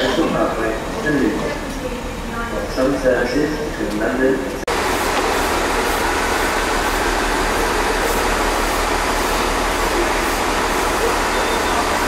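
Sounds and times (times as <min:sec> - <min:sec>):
train rumble and hiss: 0:00.0 - 0:12.0.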